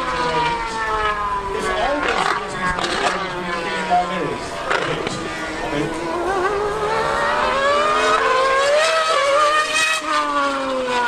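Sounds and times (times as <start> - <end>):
racing engines accelerating: 0.0 - 11.0.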